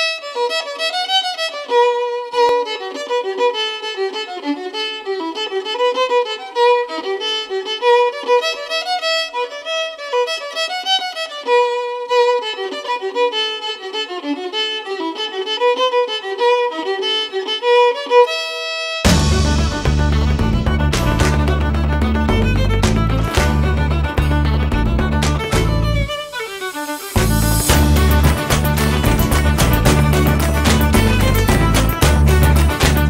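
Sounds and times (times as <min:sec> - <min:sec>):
fiddle playing quick melody: 0:00.0 - 0:33.0.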